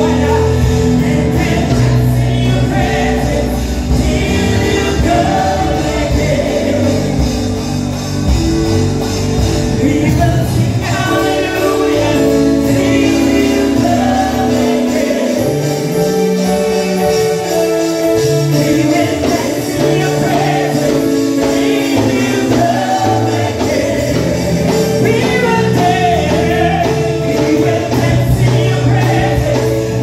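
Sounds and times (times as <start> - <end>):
group singing gospel song: 0.0 - 30.0
instrumental backing with bass: 0.0 - 30.0.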